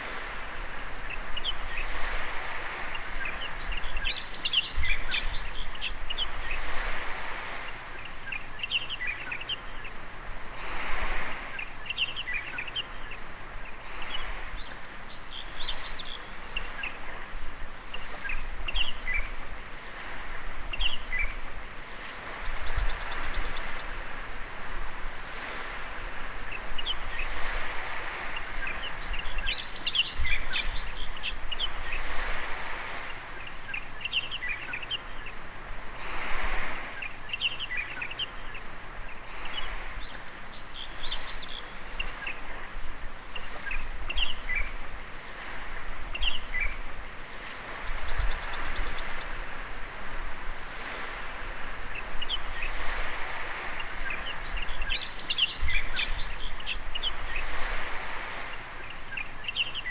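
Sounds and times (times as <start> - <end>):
small birds chirping: 0.0 - 24.3, 25.1 - 35.6, 36.3 - 50.0, 50.6 - 59.9
small waves washing onto beach: 0.0 - 59.9.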